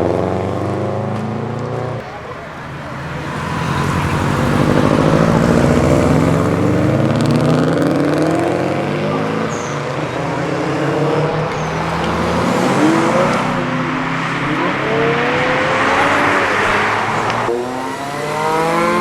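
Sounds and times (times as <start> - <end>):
car engines revving and accelerating: 0.0 - 19.0
loud rush of exhaust: 0.0 - 19.0.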